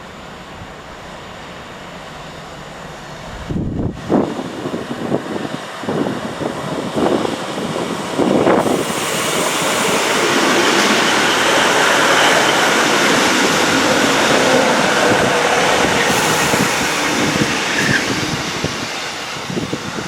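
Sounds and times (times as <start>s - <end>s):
train passing rumble: 0.0s - 20.0s
wind buffeting microphone: 3.2s - 20.0s.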